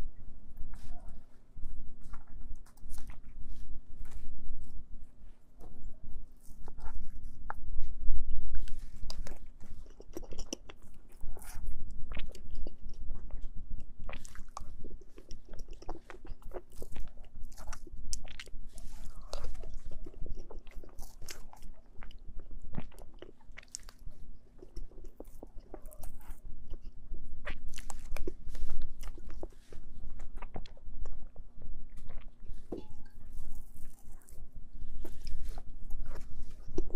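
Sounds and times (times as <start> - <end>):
person chewing and smacking: 0.6 - 4.8, 5.6 - 36.9.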